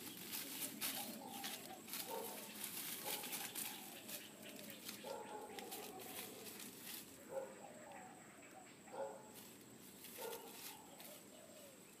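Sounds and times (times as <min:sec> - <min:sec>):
dry straw rustling: 0:00.0 - 0:07.5, 0:09.2 - 0:11.8.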